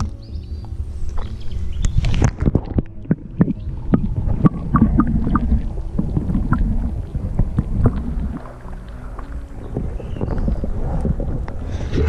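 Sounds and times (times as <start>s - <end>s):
underwater clicks and knocks: 0.0s - 12.0s
underwater low rumble: 0.0s - 12.0s.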